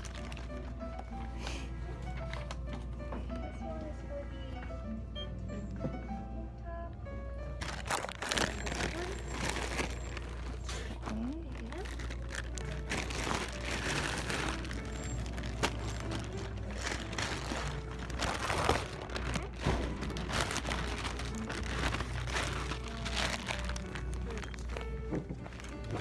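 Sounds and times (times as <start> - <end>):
faint background music: 0.0 - 26.0.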